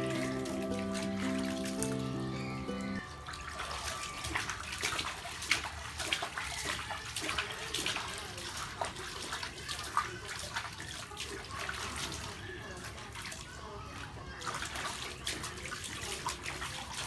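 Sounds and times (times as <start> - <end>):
water splashing in a paddling pool: 0.0 - 17.0.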